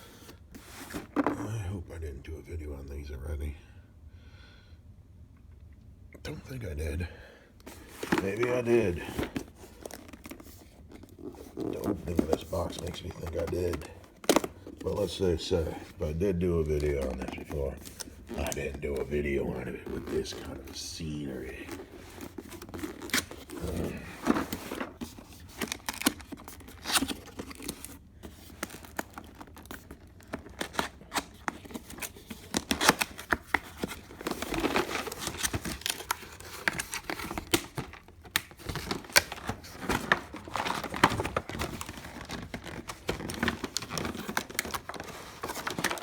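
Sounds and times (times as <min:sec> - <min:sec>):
packaging crinkling and rustling: 0:00.0 - 0:01.5, 0:07.6 - 0:46.0.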